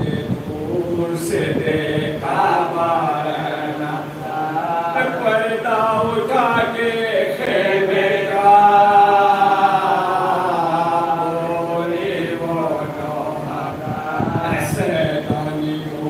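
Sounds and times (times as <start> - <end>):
men chanting mournful elegy: 0.0 - 16.0.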